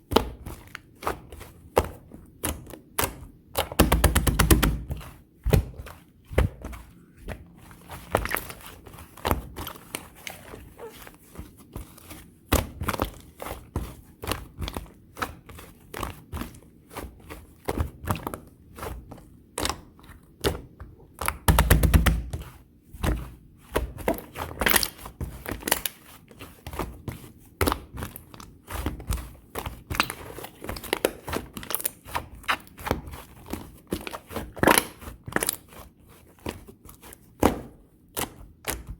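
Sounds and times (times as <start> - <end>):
slime kneaded by hand: 0.0 - 38.9.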